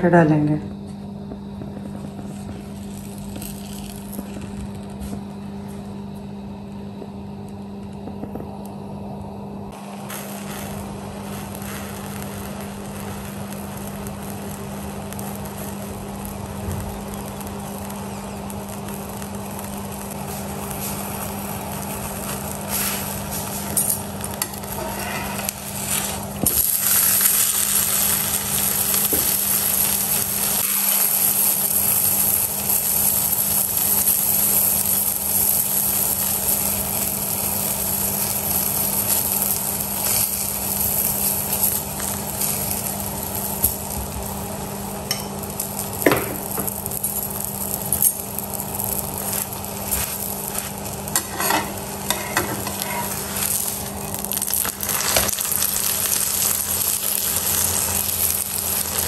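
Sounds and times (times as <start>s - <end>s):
steady hum: 0.0s - 59.0s
flatbread sizzling in a pan: 1.2s - 8.8s, 9.7s - 59.0s.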